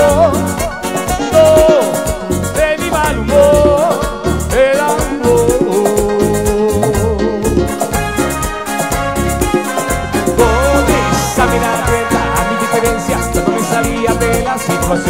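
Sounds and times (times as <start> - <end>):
bending melody line: 0.0 - 15.0
drums: 0.0 - 15.0
electric bass: 0.0 - 15.0.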